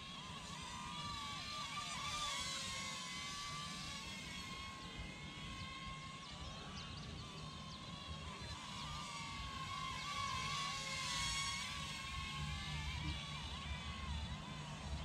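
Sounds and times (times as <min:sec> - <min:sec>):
toy drone propellers buzzing: 0:00.0 - 0:15.0.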